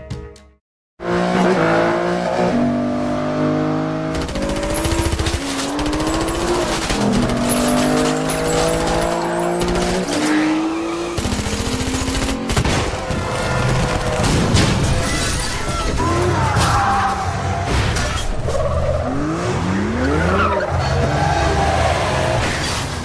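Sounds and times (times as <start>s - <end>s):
car engine: 1.0s - 23.0s.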